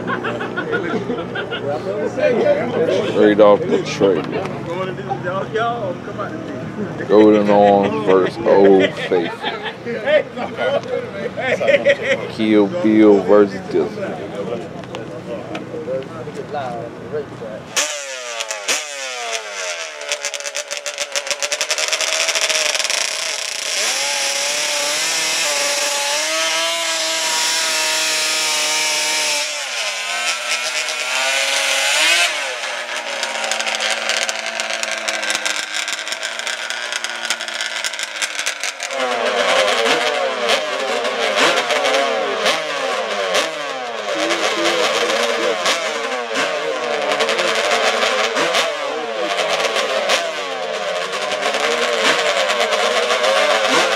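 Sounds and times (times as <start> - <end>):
engines revving: 0.0 - 53.9.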